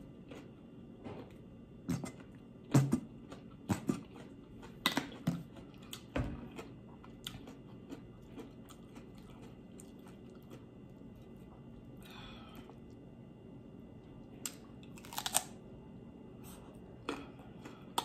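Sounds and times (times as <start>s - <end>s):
close chewing and mouth sounds: 0.0s - 13.0s, 16.5s - 18.0s.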